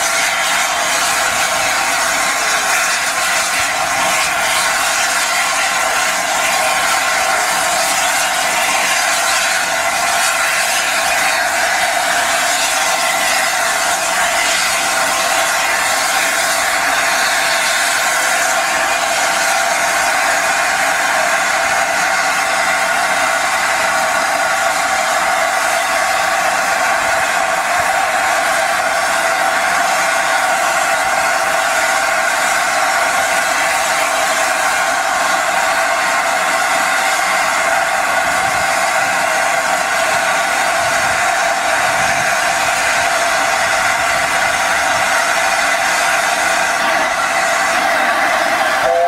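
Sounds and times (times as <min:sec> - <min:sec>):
steam locomotive hissing steam: 0:00.0 - 0:49.0.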